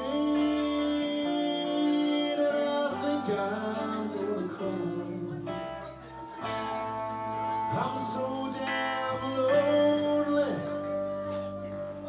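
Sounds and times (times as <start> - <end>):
live blues band playing: 0.0 - 12.0.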